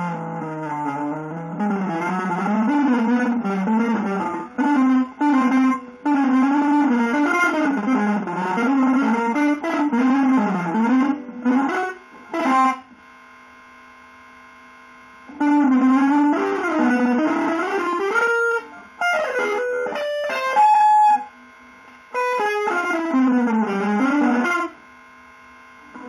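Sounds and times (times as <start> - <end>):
electric guitar legato phrases: 0.0 - 13.0, 15.3 - 24.9.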